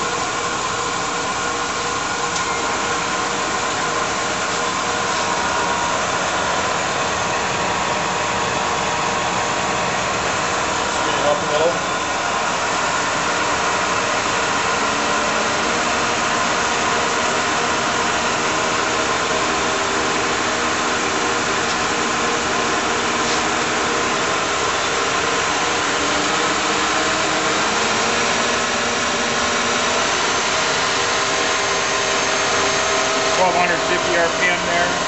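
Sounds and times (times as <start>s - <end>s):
lathe whirring and whining: 0.0s - 35.0s.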